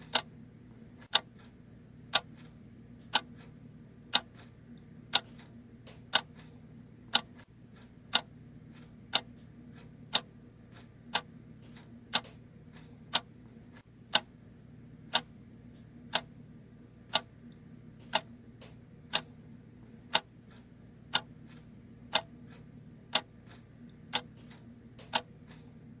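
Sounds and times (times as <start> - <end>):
clock ticking: 0.0 - 0.4, 1.0 - 14.4, 15.1 - 16.4, 17.0 - 26.0
faint low hum: 0.0 - 26.0.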